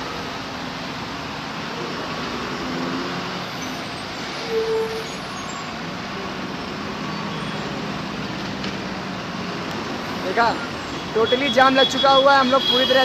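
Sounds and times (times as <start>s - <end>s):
traffic on a wet road: 0.0s - 13.0s.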